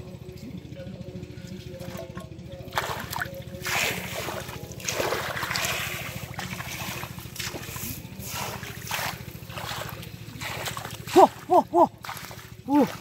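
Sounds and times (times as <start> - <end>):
steady low rumble: 0.0 - 13.0
splashing in shallow muddy water: 1.6 - 13.0.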